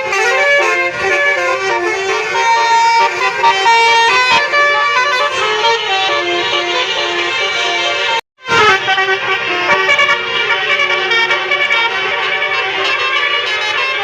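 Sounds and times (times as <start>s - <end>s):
bus horn playing a melody: 0.0s - 14.0s.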